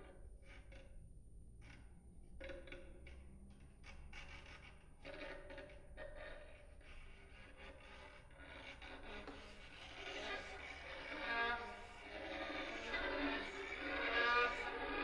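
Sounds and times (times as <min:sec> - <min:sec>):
quiet chamber music: 0:00.0 - 0:15.0.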